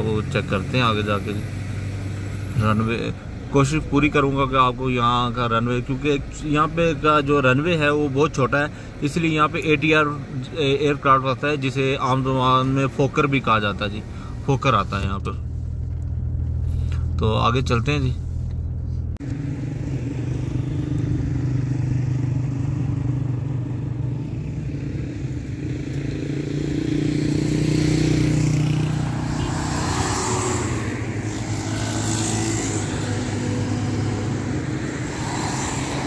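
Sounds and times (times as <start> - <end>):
car engine: 0.0 - 36.0
road noise inside car: 0.0 - 36.0.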